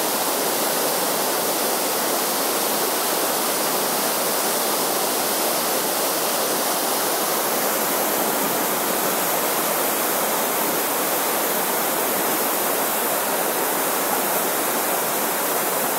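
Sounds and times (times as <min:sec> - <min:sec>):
water rushing over dam: 0:00.0 - 0:15.9.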